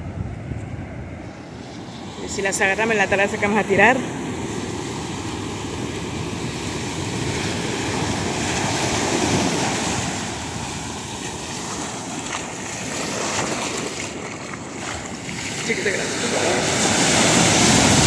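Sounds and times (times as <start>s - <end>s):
ocean surf breaking: 0.8s - 18.0s.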